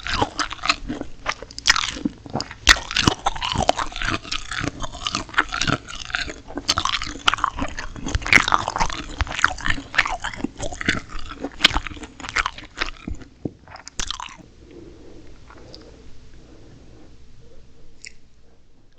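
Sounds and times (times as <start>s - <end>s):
crunchy chewing: 0.0s - 16.8s, 17.4s - 18.6s.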